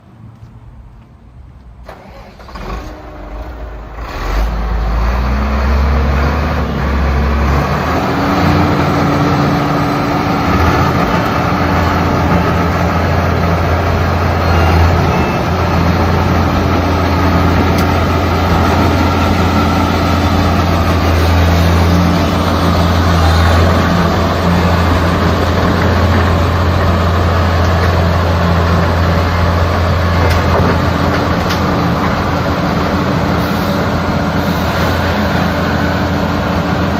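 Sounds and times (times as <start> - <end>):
diesel engine starting and running: 0.2 - 36.9.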